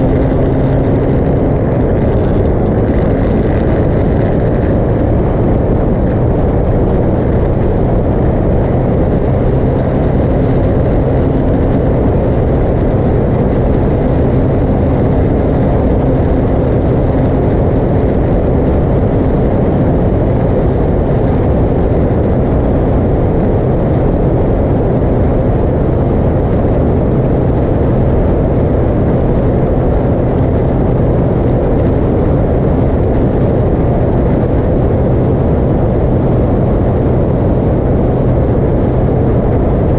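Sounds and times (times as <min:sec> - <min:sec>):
motorcycle engine hum: 0:00.0 - 0:39.9
wind rush over microphone: 0:00.0 - 0:39.9.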